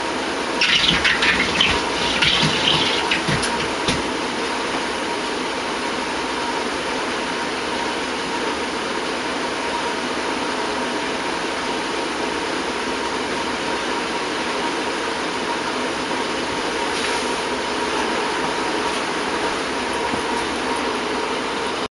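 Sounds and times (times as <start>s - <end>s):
machine hum and hiss: 0.0s - 21.9s.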